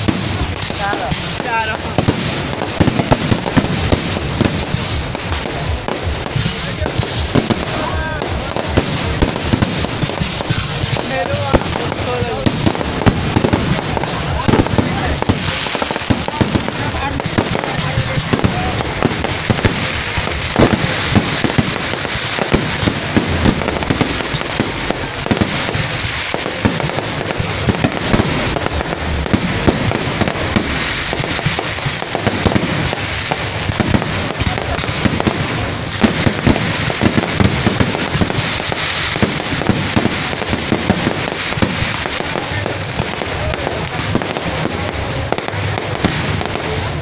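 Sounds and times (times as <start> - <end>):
fireworks crackling: 0.0 - 47.0
fireworks pops and bangs: 0.0 - 47.0.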